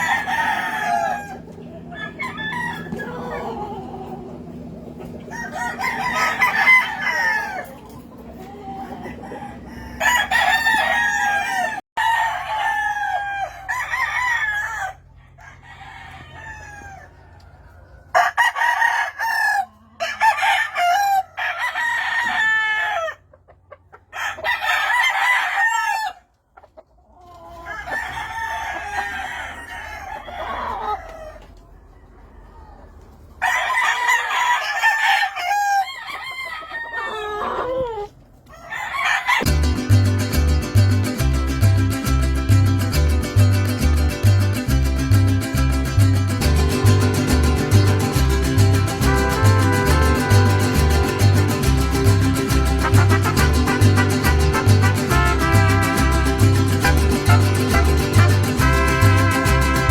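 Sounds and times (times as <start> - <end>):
roosters crowing: 0.0 - 26.4, 27.2 - 39.6, 46.4 - 59.9.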